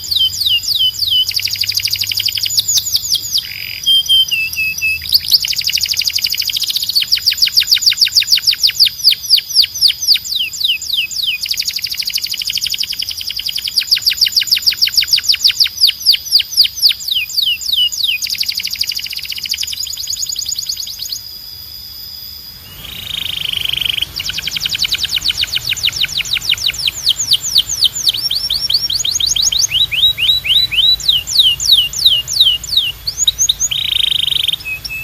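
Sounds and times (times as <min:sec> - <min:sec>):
canary singing trills: 0:00.0 - 0:35.0.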